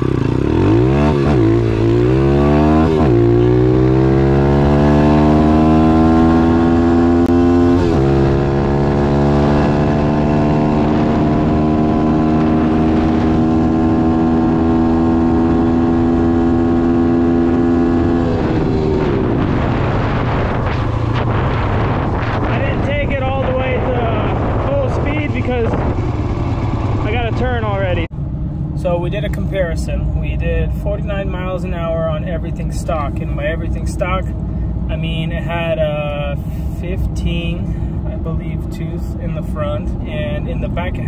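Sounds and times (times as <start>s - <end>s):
motorbike engine at full throttle: 0.0s - 41.0s.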